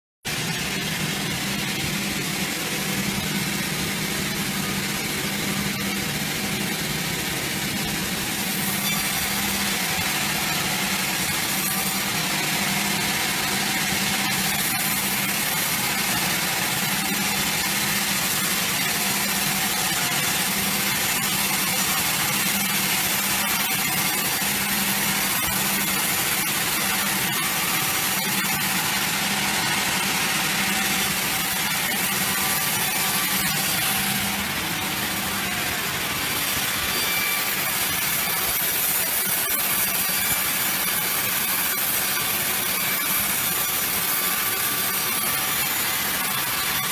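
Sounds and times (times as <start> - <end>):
band saw cutting through log: 0.3 - 46.9.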